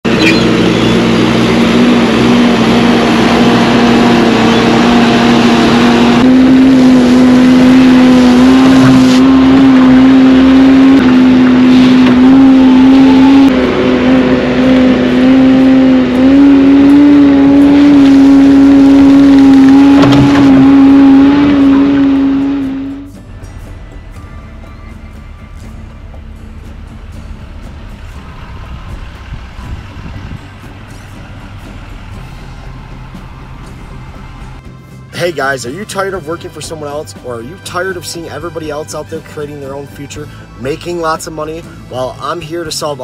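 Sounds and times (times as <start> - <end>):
diesel engine running hard: 0.0 - 43.0.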